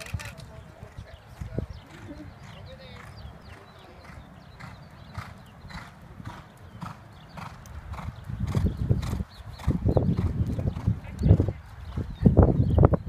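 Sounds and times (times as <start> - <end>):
horse trotting on sand: 0.0 - 12.6.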